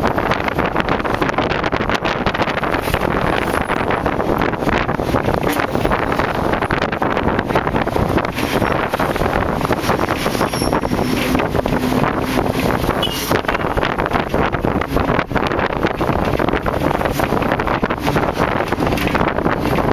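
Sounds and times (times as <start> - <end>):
vehicle road and engine noise: 0.0 - 19.9
wind buffeting microphone: 0.0 - 19.9.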